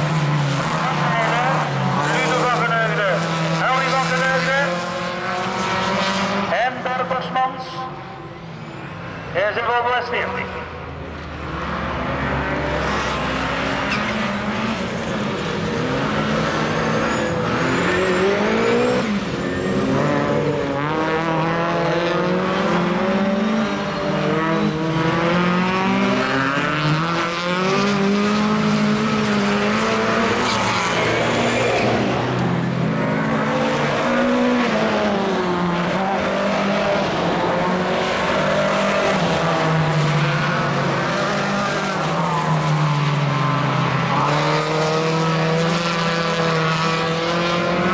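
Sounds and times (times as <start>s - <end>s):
race car engines revving: 0.0s - 47.9s.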